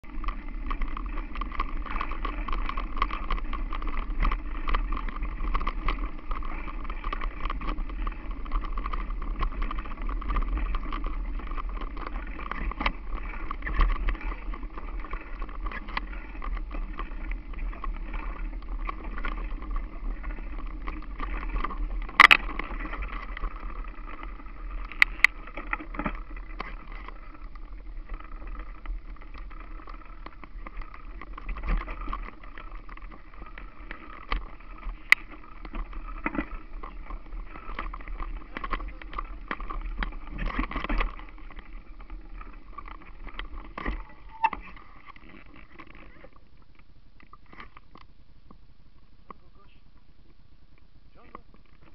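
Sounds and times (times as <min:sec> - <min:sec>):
bike frame rattles and knocks: 0:00.0 - 0:46.2
bike rolling over rough ground: 0:00.0 - 0:51.9.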